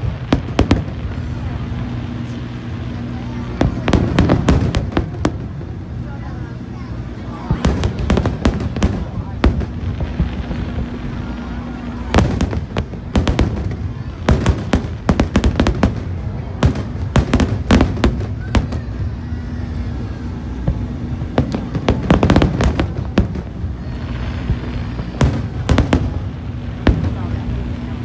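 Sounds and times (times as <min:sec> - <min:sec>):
fireworks bursting: 0:00.0 - 0:28.0
fireworks whistling: 0:00.0 - 0:28.0.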